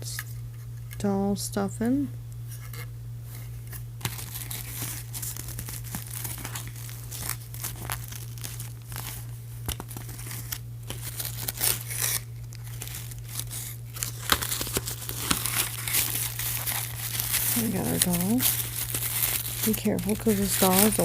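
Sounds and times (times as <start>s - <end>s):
steady low hum: 0.0s - 21.0s
plastic and cardboard crinkling: 2.5s - 21.0s.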